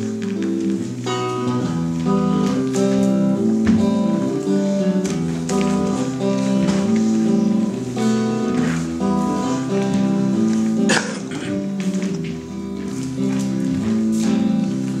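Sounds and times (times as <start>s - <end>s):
guitar plucked chords: 0.0s - 15.0s.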